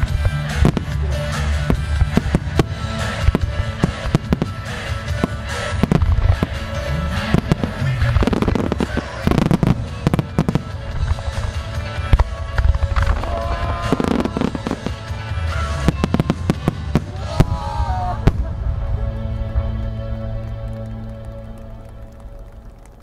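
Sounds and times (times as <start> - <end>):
fireworks bursting with bangs: 0.0 - 19.8.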